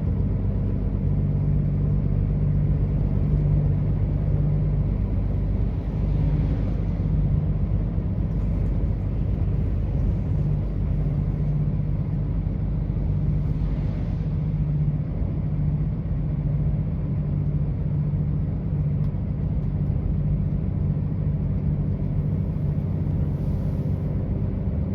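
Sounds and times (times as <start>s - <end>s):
road rumble: 0.0s - 24.9s
truck engine droning: 0.0s - 24.9s.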